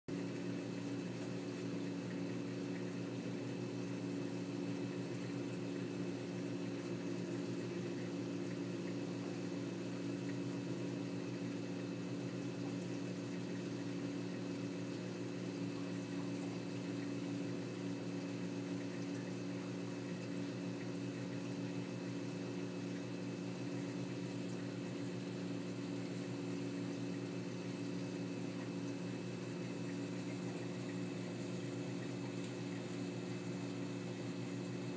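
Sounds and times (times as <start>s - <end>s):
aquarium pump hum: 0.1s - 34.9s.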